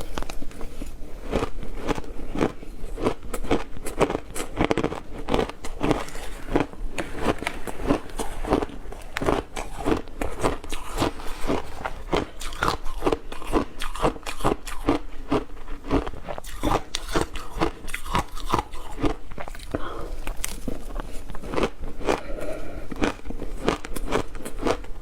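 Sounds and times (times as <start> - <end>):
ice crunching while chewed: 0.0 - 25.0.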